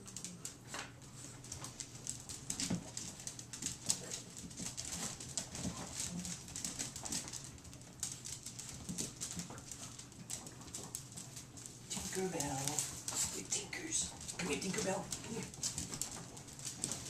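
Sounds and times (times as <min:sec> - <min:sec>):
dog claws clicking on tiles: 0:00.0 - 0:17.0.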